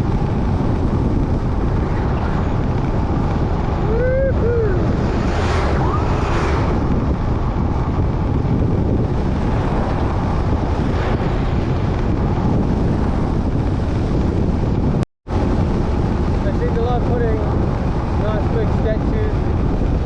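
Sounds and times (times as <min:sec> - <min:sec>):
motorbike ride rumble: 0:00.0 - 0:20.0
wind buffeting microphone: 0:00.0 - 0:20.0.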